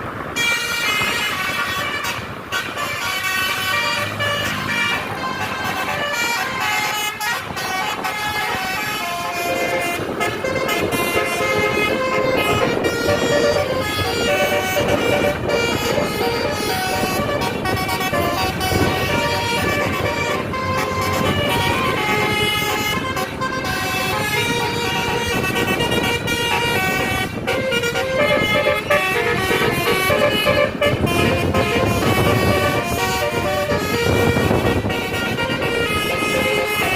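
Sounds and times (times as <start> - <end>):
multi-tone bus horn tune: 0.0 - 36.9
traffic and engine noise: 0.0 - 36.9
noisy rumble: 2.2 - 36.9.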